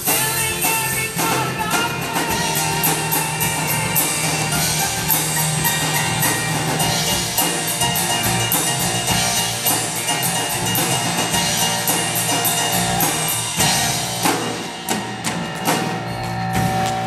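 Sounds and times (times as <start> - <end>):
band playing instrumental: 0.0 - 17.0
drum cymbal beat: 0.0 - 17.0.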